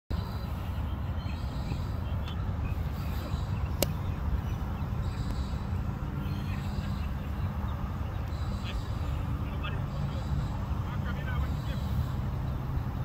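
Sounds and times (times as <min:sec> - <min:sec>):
low outdoor rumble: 0:00.1 - 0:13.0.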